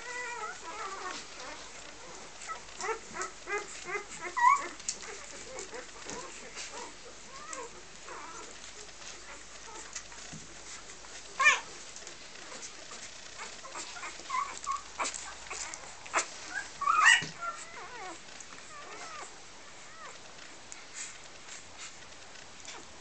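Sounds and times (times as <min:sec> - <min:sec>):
puppies whimpering: 0:00.0 - 0:20.2.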